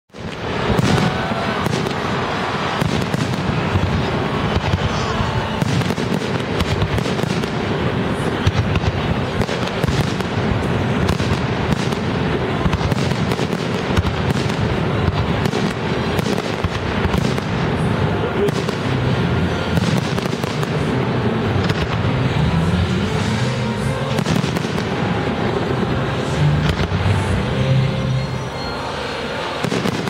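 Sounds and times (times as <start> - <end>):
fireworks bursting and crackling: 0.1 - 30.0.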